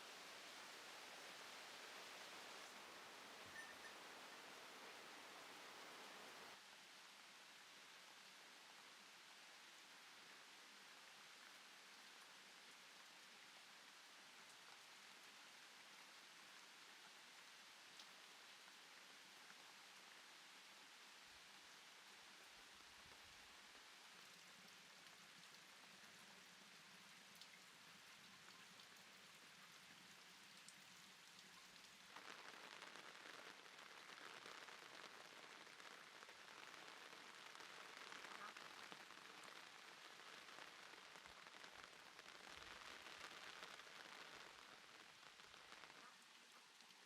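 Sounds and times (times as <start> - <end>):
rain-like hiss: 0.0 - 47.0.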